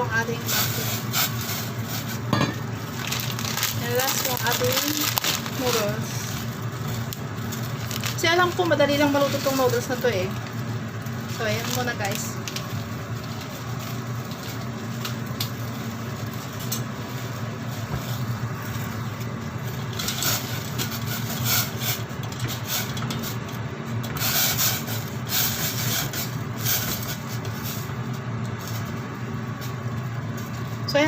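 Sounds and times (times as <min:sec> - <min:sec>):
pot heating on stove hissing: 0:00.0 - 0:31.0.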